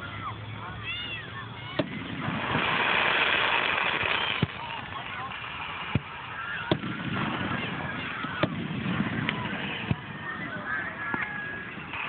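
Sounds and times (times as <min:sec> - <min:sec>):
crowd hubbub: 0:00.0 - 0:12.0
fireworks bursting with sharp bangs: 0:00.0 - 0:12.0.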